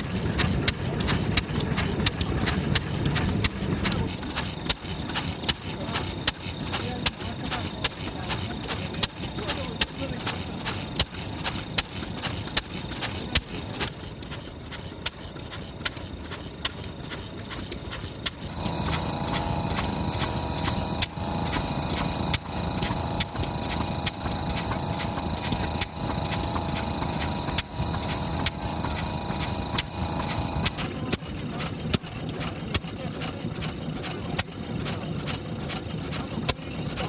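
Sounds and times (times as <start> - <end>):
droning machine hum: 0.0 - 37.0
misfiring stationary engine: 0.0 - 37.0.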